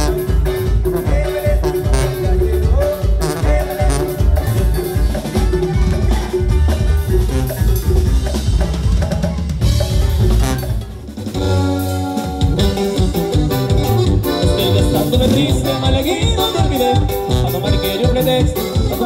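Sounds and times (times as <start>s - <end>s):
accordion band instrumental: 0.0s - 19.0s.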